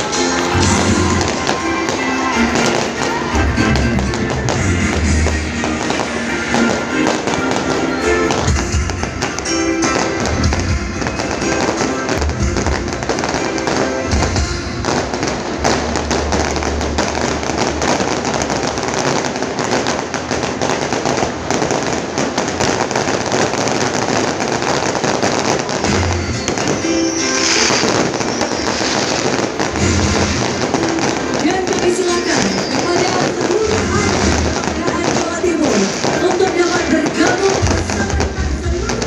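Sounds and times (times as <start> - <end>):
deep fireworks booms: 0.0 - 39.0
fireworks bursting and crackling: 0.0 - 39.0
loud music: 0.0 - 39.0.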